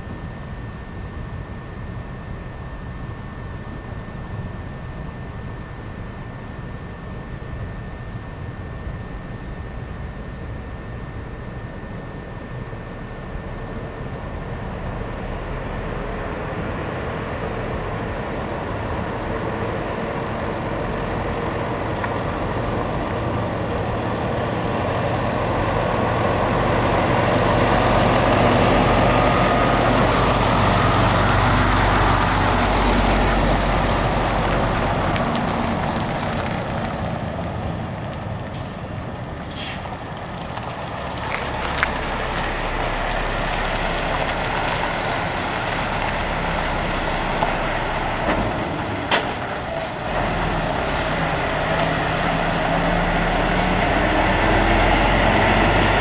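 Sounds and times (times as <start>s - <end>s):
truck diesel engine running: 2.4s - 56.0s.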